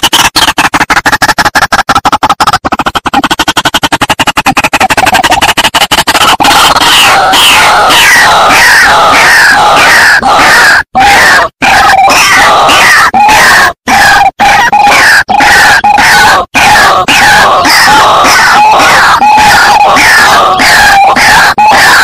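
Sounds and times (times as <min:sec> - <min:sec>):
waterhens calling harsh croaks: 0:00.0 - 0:22.0.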